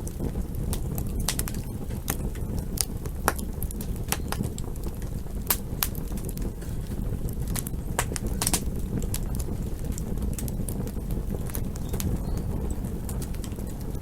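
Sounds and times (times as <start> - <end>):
burning wood crackling and popping: 0.0 - 14.0
campfire rumble: 0.0 - 14.0.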